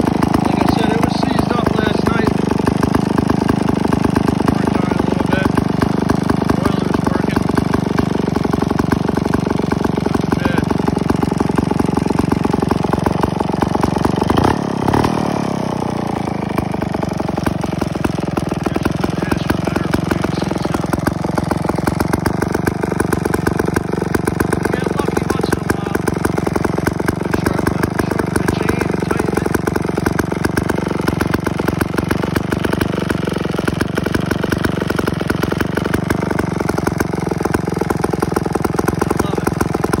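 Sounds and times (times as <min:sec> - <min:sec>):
chainsaw engine idling and revving: 0:00.0 - 0:40.0.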